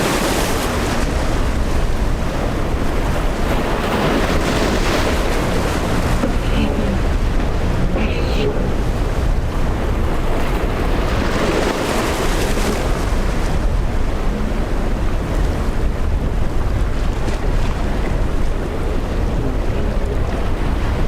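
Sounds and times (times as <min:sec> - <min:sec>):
rough surf and waves: 0:00.0 - 0:21.0
wind buffeting microphone: 0:00.0 - 0:21.0.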